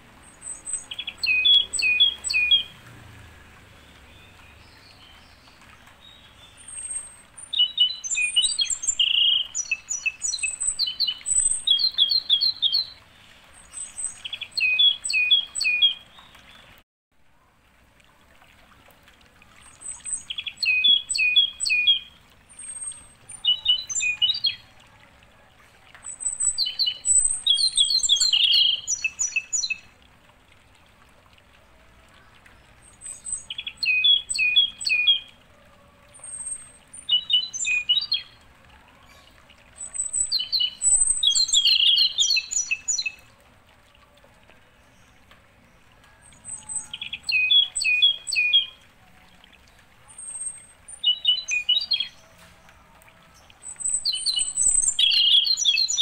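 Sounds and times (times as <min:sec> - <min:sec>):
songbird chirping: 0:00.0 - 0:16.8, 0:19.5 - 0:30.4, 0:32.0 - 0:56.0
faint background hiss: 0:00.0 - 0:56.0.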